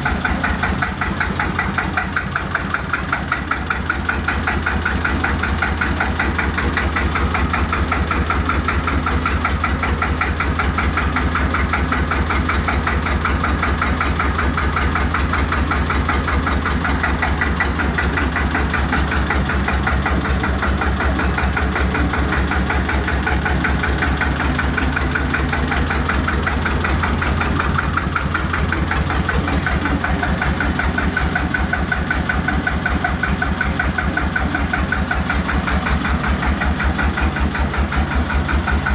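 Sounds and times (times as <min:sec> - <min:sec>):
small tractor engine idling: 0:00.0 - 0:38.9.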